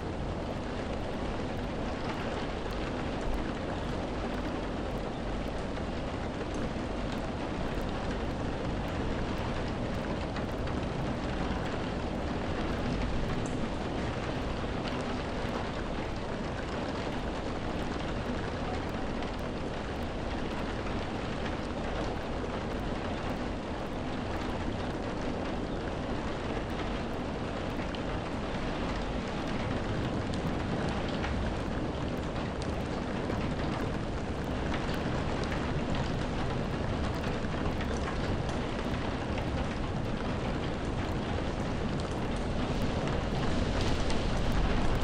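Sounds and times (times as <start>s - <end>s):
heavy rainfall: 0.0s - 45.0s.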